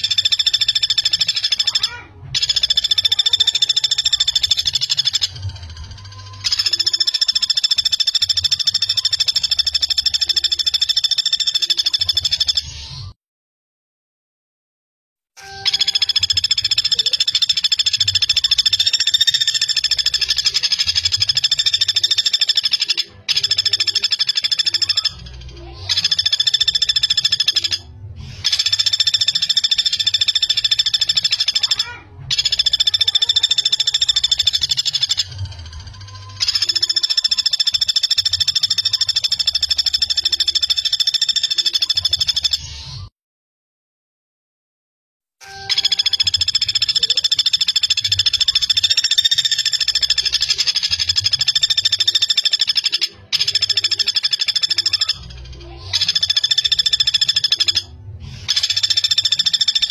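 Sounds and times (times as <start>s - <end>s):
woodpecker rattling trill: 0.0s - 12.7s, 15.4s - 42.7s, 45.4s - 59.9s.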